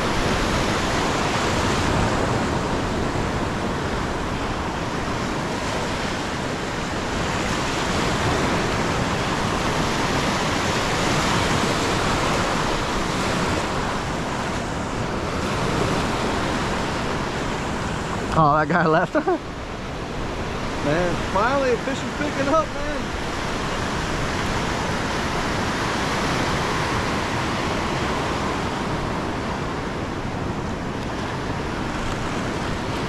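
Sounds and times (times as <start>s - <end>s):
ocean surf breaking on sand: 0.0s - 33.0s.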